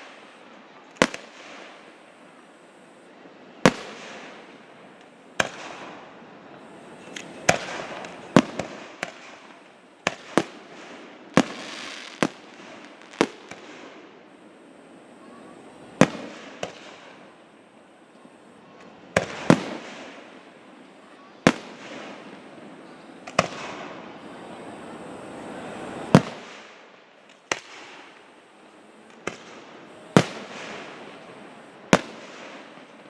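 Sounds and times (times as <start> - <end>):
fireworks booming: 0.0 - 33.0
fireworks hiss and crackle: 0.0 - 33.0.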